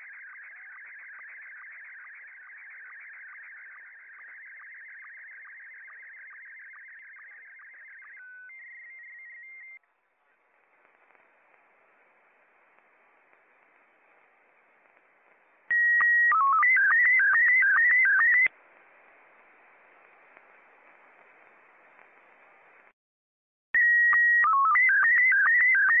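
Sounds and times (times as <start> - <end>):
slow-scan television tones: 0.0 - 22.9
faint radio band hiss: 0.0 - 23.0.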